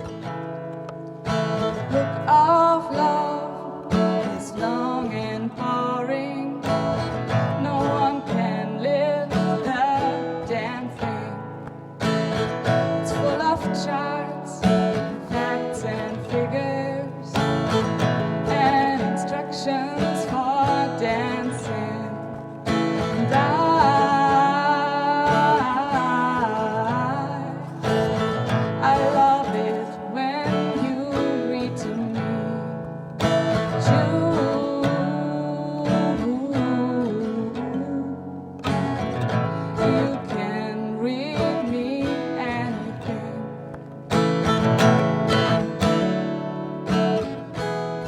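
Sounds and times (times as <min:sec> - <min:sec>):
acoustic guitar: 0:00.0 - 0:48.0
person singing: 0:01.5 - 0:11.4, 0:12.0 - 0:43.6.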